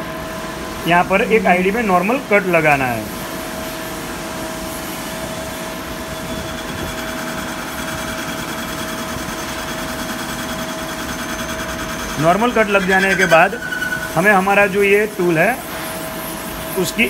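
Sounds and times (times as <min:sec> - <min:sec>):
lathe spindle running: 0:00.0 - 0:17.0.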